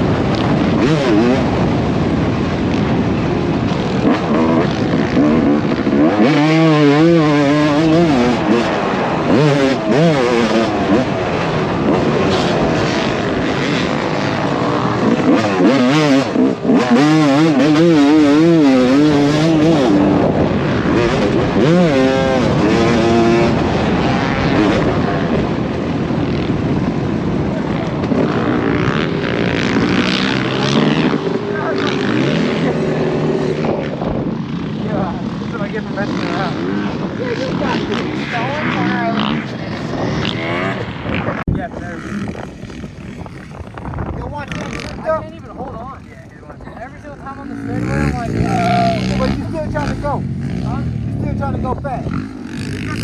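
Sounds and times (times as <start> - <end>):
dirt bike engines revving: 0.0 - 53.0.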